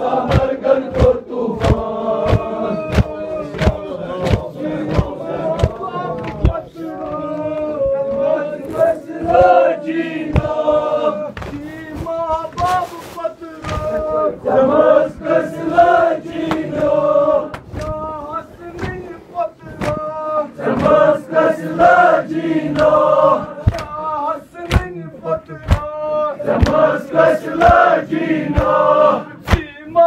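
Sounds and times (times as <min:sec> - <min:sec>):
men chanting in chorus: 0:00.0 - 0:30.0.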